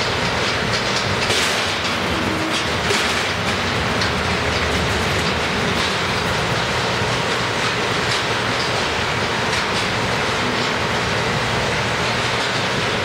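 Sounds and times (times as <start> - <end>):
loud industrial machinery: 0.0 - 13.0.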